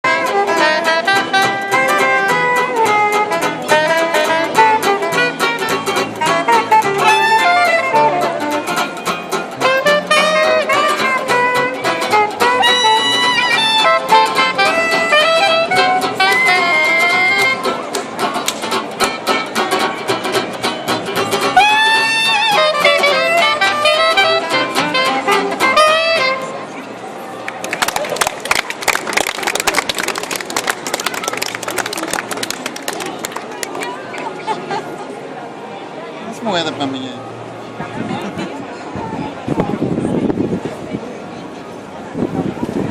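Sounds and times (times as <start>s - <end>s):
street band playing: 0.0s - 42.9s.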